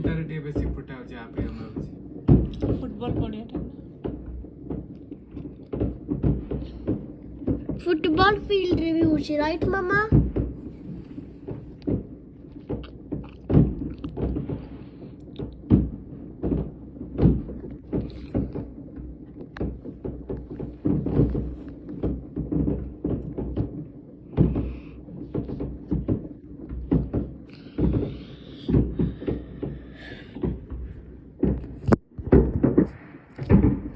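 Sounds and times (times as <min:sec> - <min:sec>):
distant fireworks bangs: 0:00.0 - 0:33.9.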